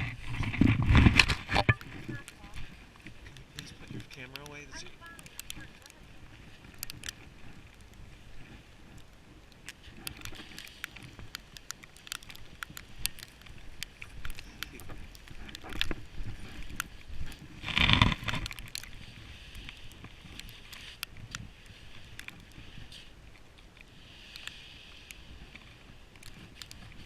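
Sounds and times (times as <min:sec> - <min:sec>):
crunching and scraping in snow: 0:00.0 - 0:27.0.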